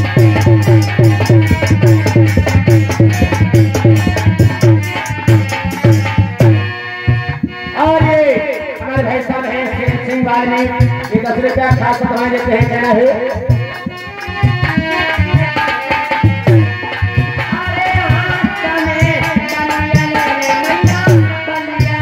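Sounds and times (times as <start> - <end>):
hand drum beating: 0.0 - 8.4, 9.7 - 22.0.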